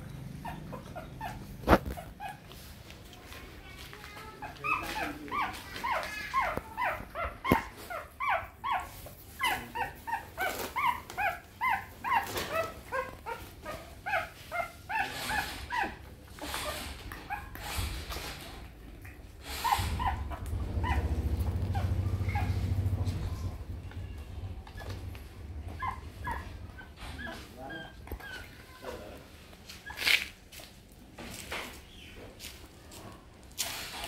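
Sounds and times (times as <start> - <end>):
puppies squeaking and whimpering: 0.0 - 2.8, 4.2 - 30.4.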